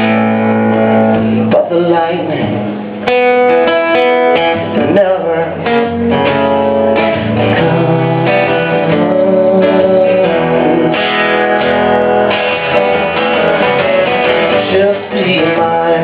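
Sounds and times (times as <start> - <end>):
guitar strumming chords: 0.0 - 16.0.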